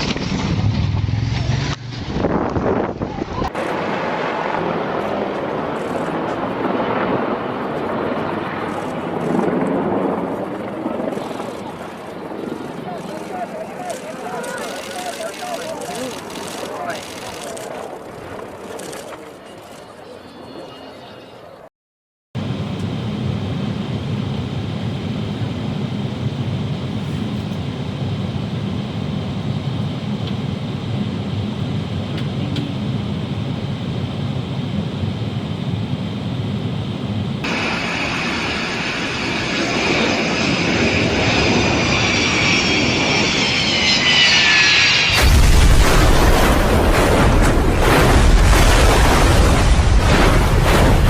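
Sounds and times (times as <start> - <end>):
engine whine: 0.0 - 20.4, 22.4 - 51.0
aircraft engine rumbling: 0.0 - 20.6, 22.4 - 51.0.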